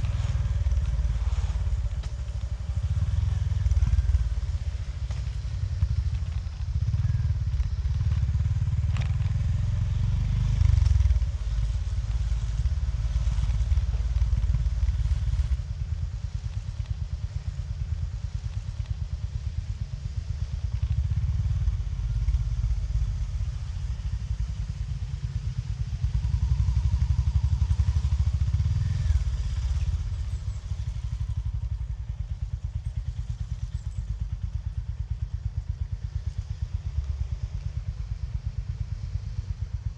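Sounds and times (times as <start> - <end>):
motorcycle engine with exhaust thump: 0.0 - 39.9.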